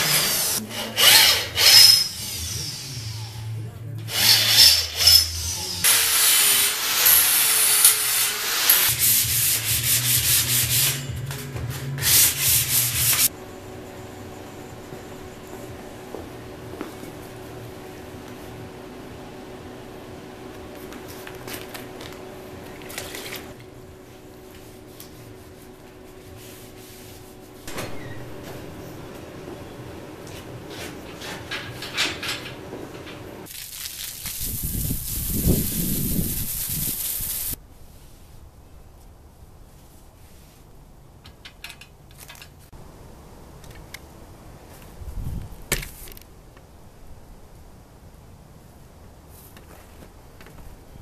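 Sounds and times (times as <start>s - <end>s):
steady background hum: 0.0s - 33.7s, 37.0s - 51.0s.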